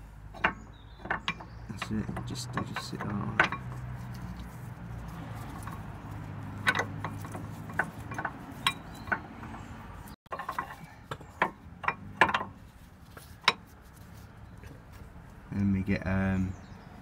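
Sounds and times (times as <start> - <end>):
metal clicks of brake pads: 0.3 - 15.1.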